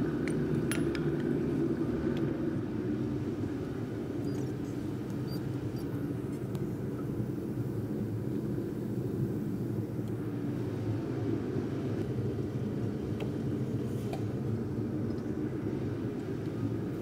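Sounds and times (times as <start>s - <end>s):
forge and machinery roar: 0.0s - 17.0s.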